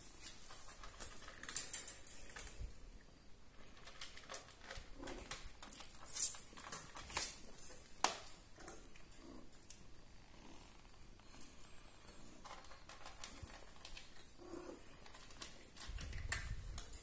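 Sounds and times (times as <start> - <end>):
cats eating clicks and rattles: 0.0 - 9.9, 11.2 - 17.0.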